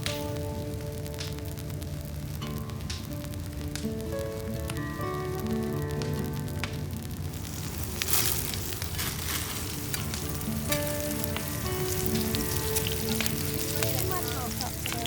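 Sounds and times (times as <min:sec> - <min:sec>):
meat sizzling in a pan: 0:00.0 - 0:15.0.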